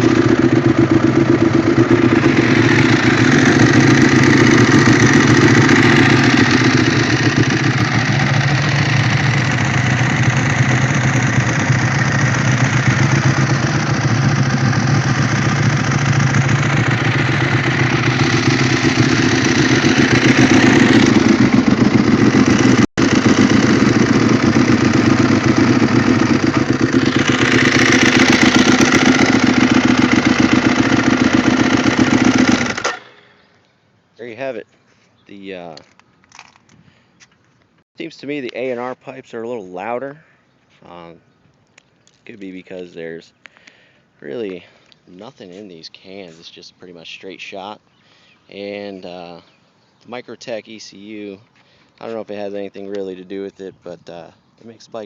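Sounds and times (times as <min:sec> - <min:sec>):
motorcycle engines idling: 0:00.0 - 0:33.6, 0:37.1 - 0:55.0.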